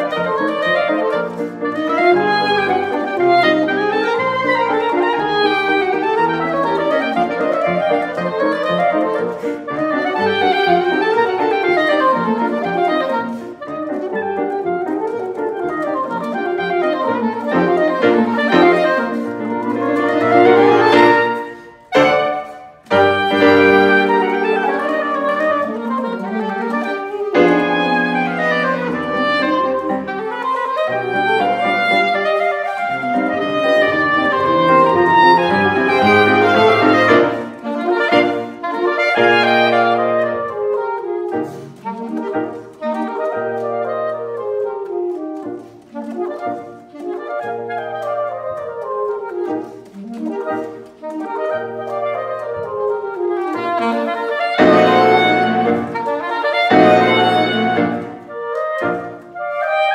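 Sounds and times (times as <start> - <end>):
piano accompaniment: 0.0 - 59.9
saxophone duet: 0.0 - 59.9.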